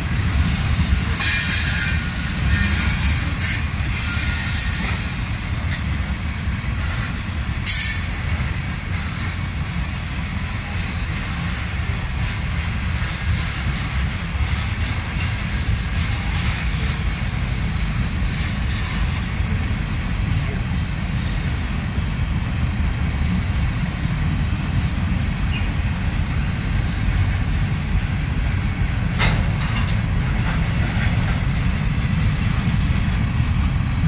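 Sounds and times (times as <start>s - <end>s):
freight train wheels rumbling: 0.0s - 34.0s
high wheel noise: 0.0s - 34.0s.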